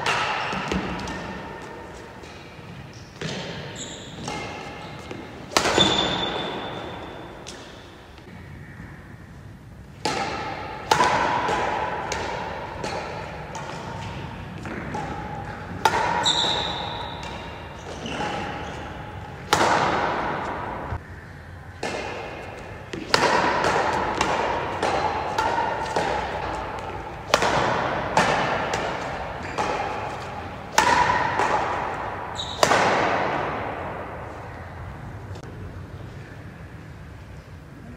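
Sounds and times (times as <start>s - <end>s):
rackets hitting shuttlecock: 0.0s - 8.4s, 9.9s - 20.9s, 21.8s - 34.8s.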